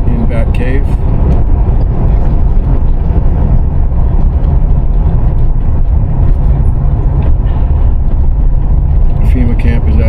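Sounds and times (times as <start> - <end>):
car driving along road: 0.0 - 10.0.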